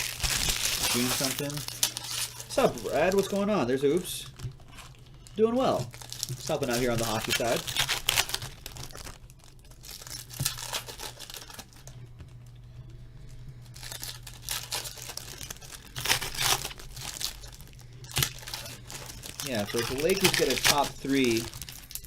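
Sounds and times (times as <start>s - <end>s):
foil wrappers tearing and crinkling: 0.0s - 11.9s, 13.2s - 22.0s.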